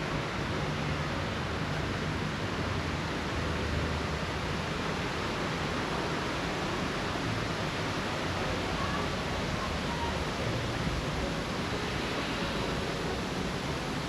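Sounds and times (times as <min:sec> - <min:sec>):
steady rushing outdoor hiss: 0:00.0 - 0:14.0.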